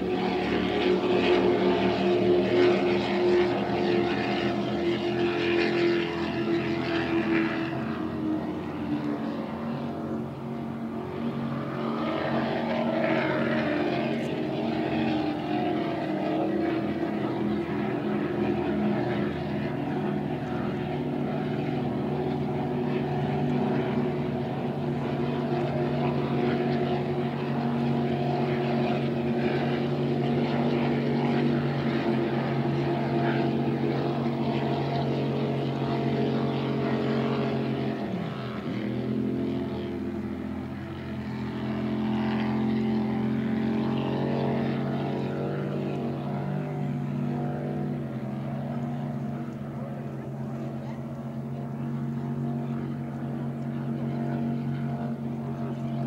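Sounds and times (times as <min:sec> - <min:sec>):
powerboat engines droning: 0:00.0 - 0:56.0.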